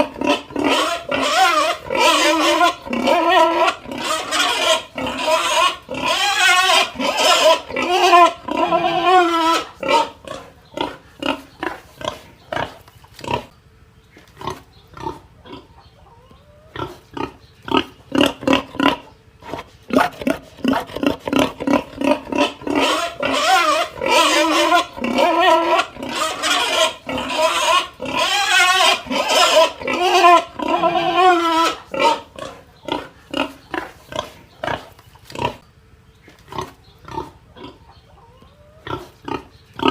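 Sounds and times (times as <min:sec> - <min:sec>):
pig squealing: 0:00.0 - 0:13.5, 0:14.4 - 0:35.6, 0:36.5 - 0:39.9
pig grunting: 0:00.0 - 0:13.6, 0:14.3 - 0:15.9, 0:16.5 - 0:35.7, 0:36.4 - 0:38.0, 0:38.6 - 0:39.9.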